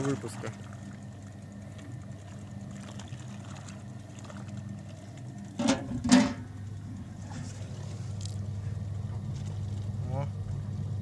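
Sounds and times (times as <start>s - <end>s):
water churning: 0.0s - 10.5s
washing machine motor humming: 0.0s - 11.0s.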